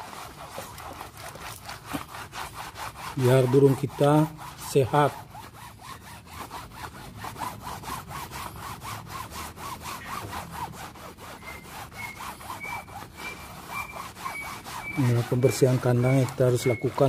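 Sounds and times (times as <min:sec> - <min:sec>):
scrubber scrubbing wet plastic tray: 0:00.0 - 0:17.0.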